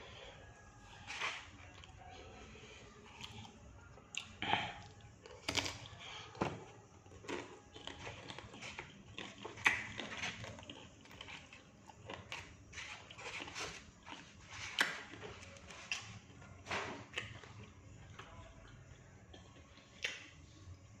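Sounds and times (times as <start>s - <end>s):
crunchy food chewing: 3.0s - 21.0s.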